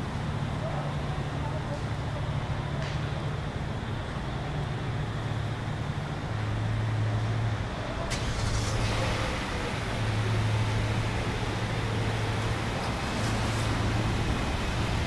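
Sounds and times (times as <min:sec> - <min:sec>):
street traffic: 0:00.0 - 0:15.0
vehicle engine idling: 0:00.0 - 0:15.0.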